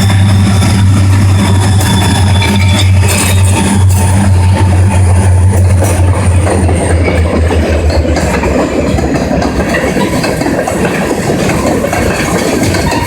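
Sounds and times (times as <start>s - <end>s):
diesel locomotive engine drone: 0.0s - 13.0s
train wheels rumbling on track: 0.0s - 13.0s.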